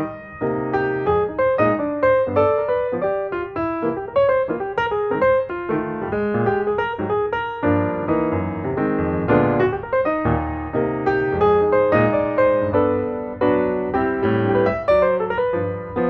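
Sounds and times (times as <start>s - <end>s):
piano melody over chords: 0.0s - 16.0s.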